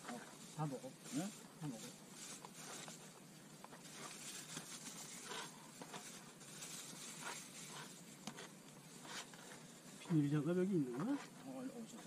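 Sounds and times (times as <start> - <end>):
plastic bags crinkling: 0.3 - 10.3.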